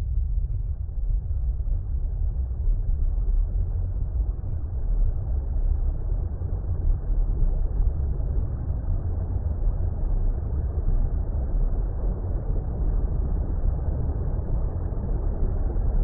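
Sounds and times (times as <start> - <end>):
muffled water rumble: 0.0 - 16.0.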